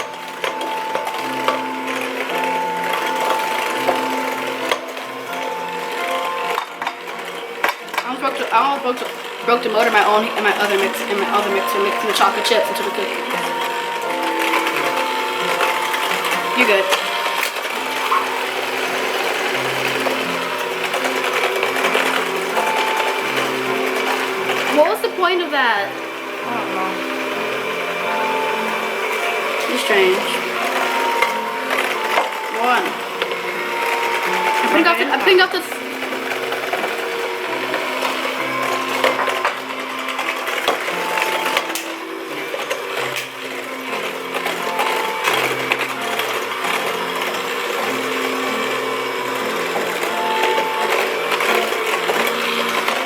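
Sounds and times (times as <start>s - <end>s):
stand mixer motor whirring: 0.0s - 53.0s.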